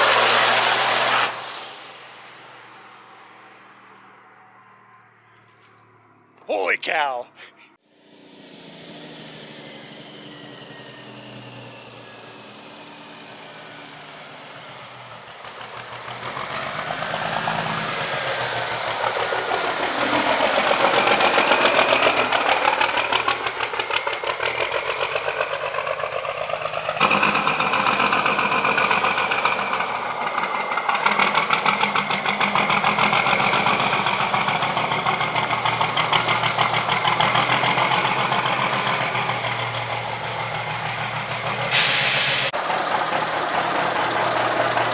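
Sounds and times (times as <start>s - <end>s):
diesel truck engine approaching: 0.0s - 44.9s.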